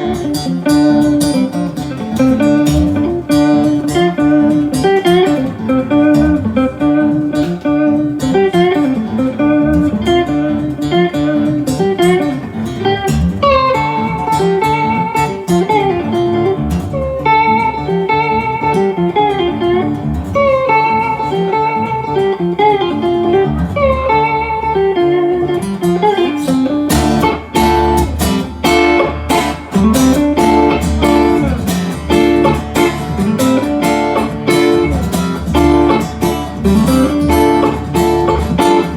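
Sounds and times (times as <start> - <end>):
lead guitar line: 0.0 - 38.9
live band playing: 0.0 - 38.9
strummed rhythm guitar: 0.0 - 38.9.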